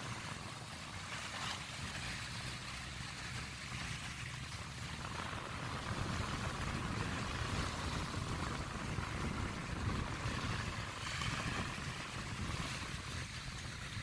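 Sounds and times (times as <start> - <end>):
rushing water: 0.0 - 14.0
low rumble: 2.4 - 14.0.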